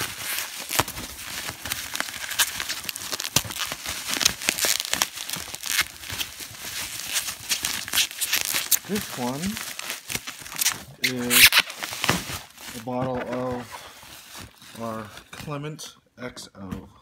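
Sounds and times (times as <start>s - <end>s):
packing peanuts rustling: 0.0s - 15.4s
bubble wrap crinkling and crackling: 0.0s - 15.6s.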